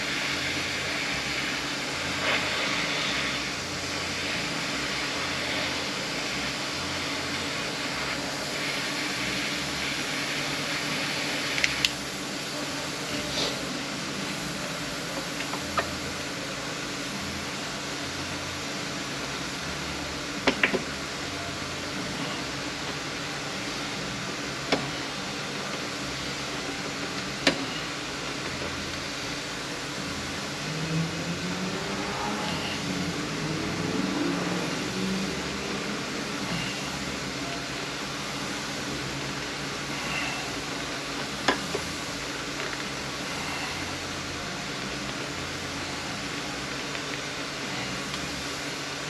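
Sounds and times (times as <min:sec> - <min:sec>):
steady rushing noise: 0:00.0 - 0:49.0.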